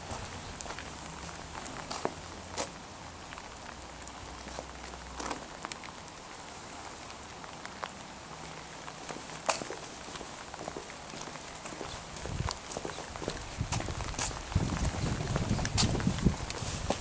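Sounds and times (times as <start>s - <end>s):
footsteps on wet paving: 0.0s - 17.0s
steady outdoor hiss: 0.0s - 17.0s.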